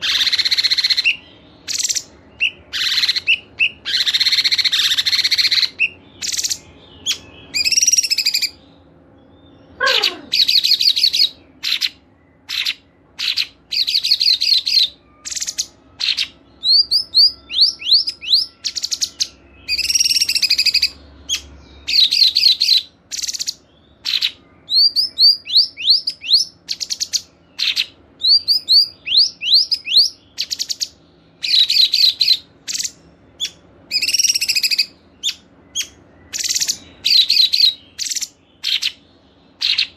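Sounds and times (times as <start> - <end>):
repeated sweeping bird notes: 0.0 - 39.9
songbirds chattering: 0.0 - 39.9.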